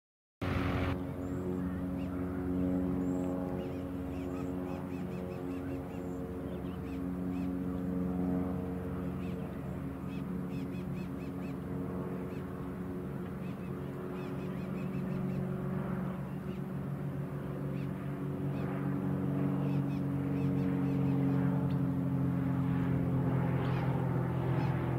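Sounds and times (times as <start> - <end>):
plane engine and propeller droning: 0.4 - 24.9.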